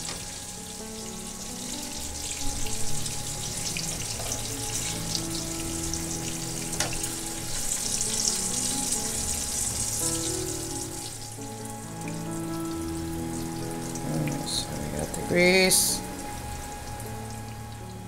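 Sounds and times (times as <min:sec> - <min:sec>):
grease sizzling in a frying pan: 0:00.0 - 0:18.0.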